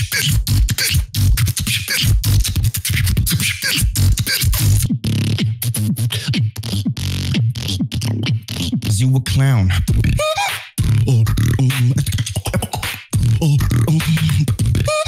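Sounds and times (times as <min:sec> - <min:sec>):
beatboxing into a microphone: 0:00.0 - 0:15.0.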